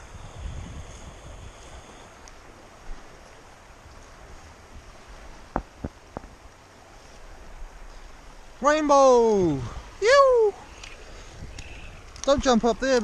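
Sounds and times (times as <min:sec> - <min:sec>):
flowing river water: 0:00.0 - 0:13.0
wind buffeting microphone: 0:00.0 - 0:13.0.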